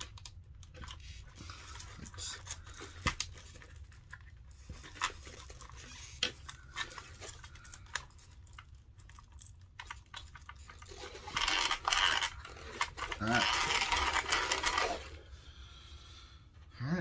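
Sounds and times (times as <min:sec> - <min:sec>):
small parts clicking and tapping: 0:00.0 - 0:15.1
low steady hum: 0:00.0 - 0:17.0.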